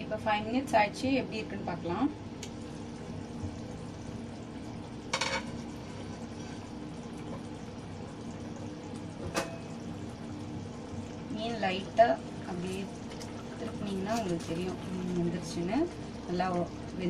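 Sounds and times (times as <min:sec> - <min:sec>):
curry bubbling in a pot: 0:01.1 - 0:17.0.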